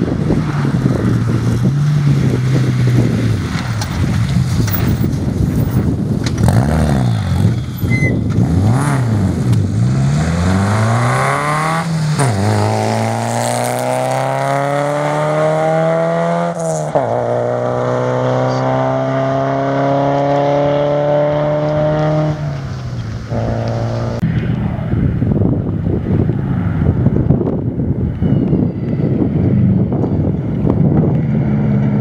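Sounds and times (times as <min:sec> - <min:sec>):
rally car engine at full throttle: 0:00.0 - 0:32.0
wind buffeting microphone: 0:00.0 - 0:32.0.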